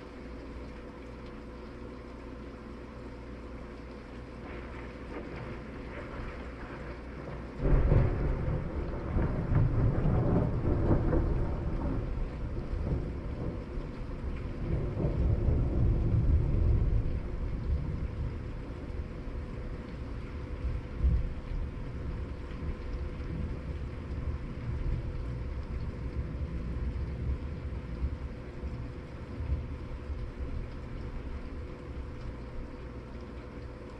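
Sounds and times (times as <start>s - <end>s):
steady rain: 0.0s - 33.9s
thunder crack and rumble: 4.4s - 33.0s.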